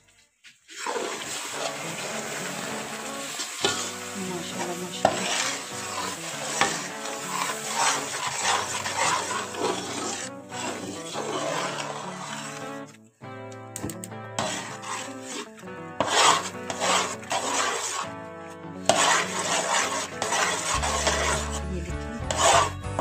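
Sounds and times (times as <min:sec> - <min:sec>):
mixture sizzling: 0:00.0 - 0:13.0, 0:13.8 - 0:23.0
spoon scraping metal pot: 0:00.7 - 0:13.0, 0:14.4 - 0:18.2, 0:18.8 - 0:23.0.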